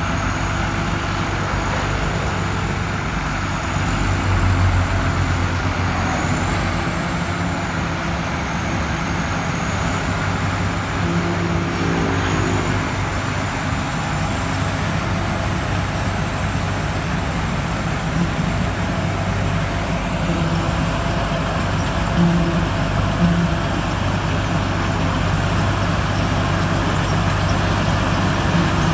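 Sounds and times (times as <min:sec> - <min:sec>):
harvester engine running: 0:00.0 - 0:28.9.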